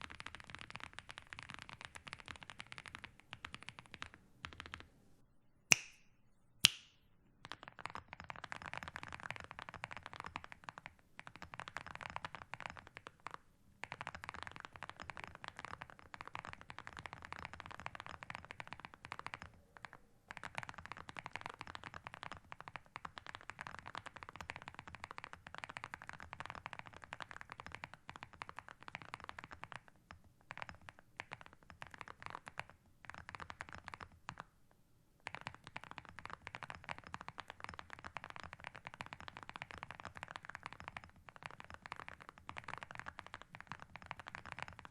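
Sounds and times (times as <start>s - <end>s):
mechanical keyboard typing: 0.0s - 4.9s, 7.4s - 34.5s, 35.2s - 44.9s.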